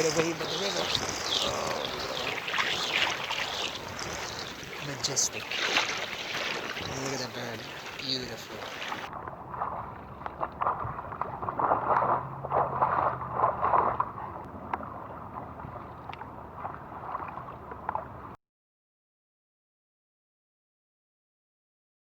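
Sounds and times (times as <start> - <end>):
floodwater rushing and gurgling: 0.0 - 18.4
small water splashes: 0.0 - 18.4.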